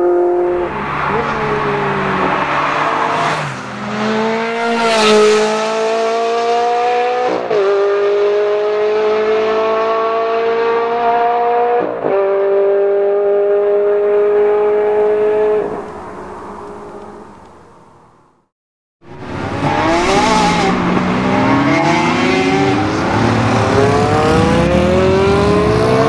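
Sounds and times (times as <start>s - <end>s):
sports car engine accelerating: 0.0s - 17.4s, 19.2s - 26.0s.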